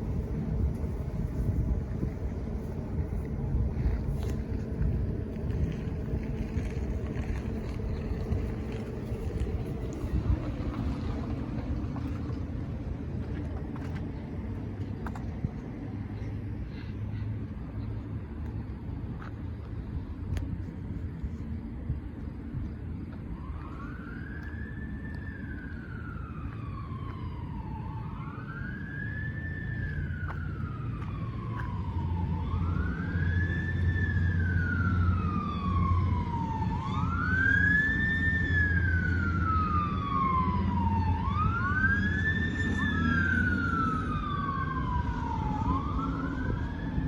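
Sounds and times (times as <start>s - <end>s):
sirens wailing: 0.0s - 14.1s, 23.1s - 47.0s
heavy engine rumble: 0.0s - 47.0s.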